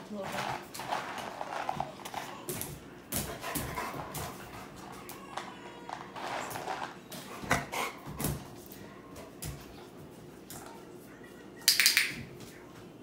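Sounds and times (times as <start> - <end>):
dog moving on tile floor: 0.0 - 12.9.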